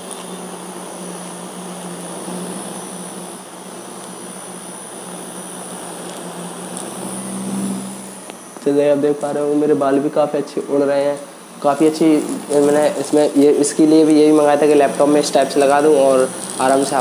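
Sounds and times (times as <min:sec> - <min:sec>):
small fan whirring: 0:00.0 - 0:17.0.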